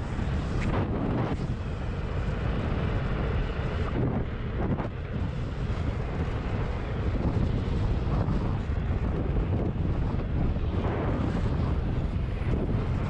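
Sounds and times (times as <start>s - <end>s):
wheels rolling on asphalt: 0.0s - 13.0s
wind buffeting microphone: 0.0s - 13.0s.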